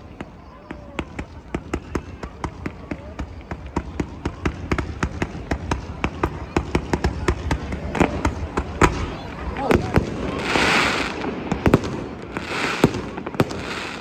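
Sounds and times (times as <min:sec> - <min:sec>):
fireworks bangs: 0:00.0 - 0:14.0
fireworks popping: 0:00.0 - 0:14.0.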